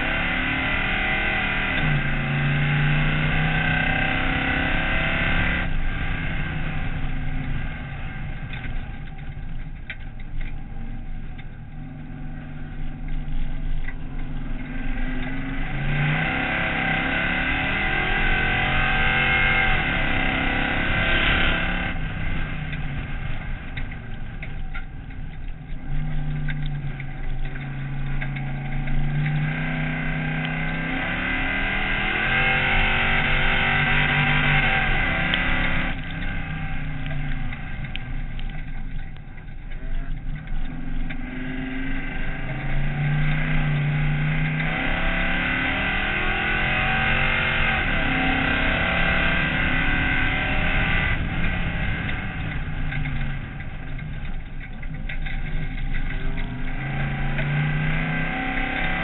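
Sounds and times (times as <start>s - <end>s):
race car engine revving: 0.0s - 59.0s
road and wind noise: 0.0s - 59.0s.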